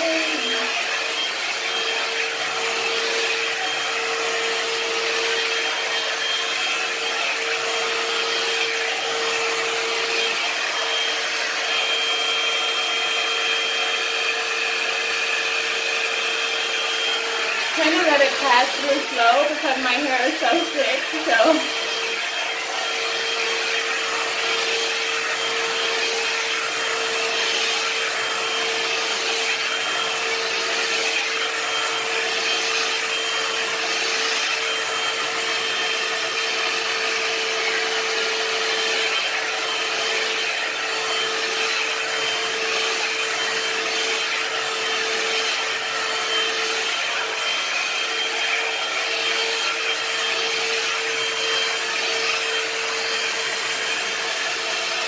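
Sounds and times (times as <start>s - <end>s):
hot-air brush whining: 0.0s - 55.0s.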